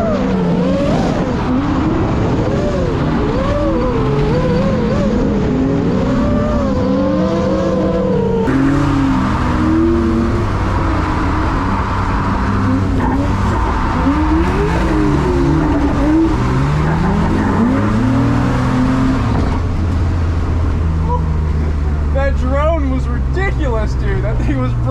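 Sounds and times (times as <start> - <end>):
car engines revving: 0.0 - 24.9.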